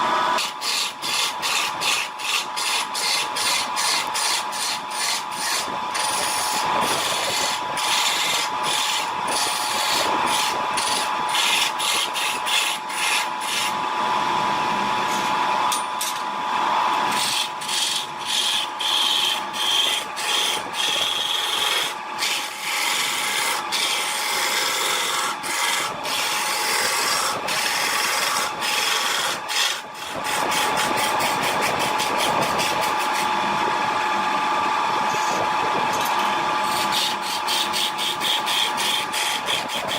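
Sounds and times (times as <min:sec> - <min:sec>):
tool scraping spinning wood: 0:00.0 - 0:13.8, 0:17.0 - 0:33.7, 0:34.9 - 0:39.9
lathe motor hum: 0:00.0 - 0:15.7, 0:16.4 - 0:39.9.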